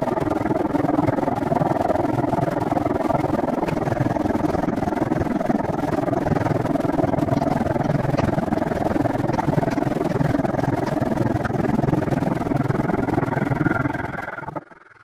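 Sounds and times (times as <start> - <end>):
wind rushing over microphone: 0.0 - 14.6.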